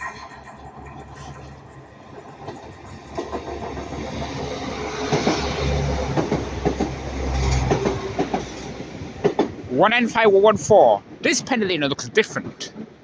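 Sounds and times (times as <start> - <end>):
train engine and wheel rumble: 0.0 - 13.0.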